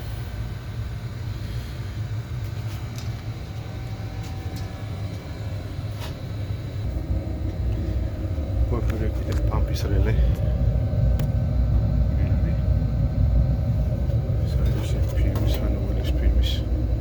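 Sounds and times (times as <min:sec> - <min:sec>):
boiler plant rumbling: 0:00.8 - 0:17.0.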